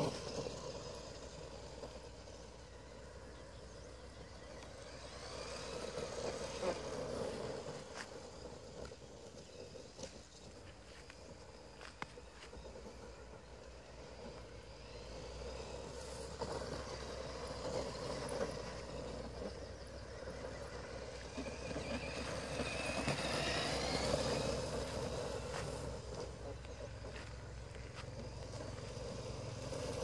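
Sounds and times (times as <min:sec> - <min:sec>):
electric motor and gearbox whine: 0:00.0 - 0:30.0.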